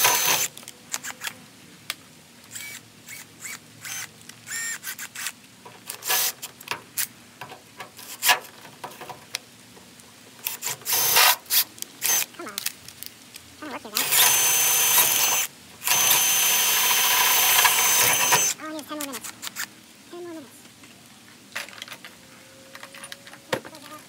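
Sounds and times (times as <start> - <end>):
faint rain patter: 0.4 - 14.1, 15.5 - 15.9, 18.5 - 24.0.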